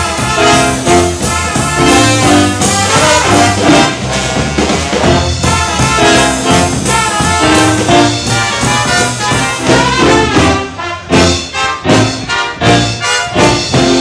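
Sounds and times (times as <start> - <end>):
saxophones and brass band playing: 0.0 - 14.0.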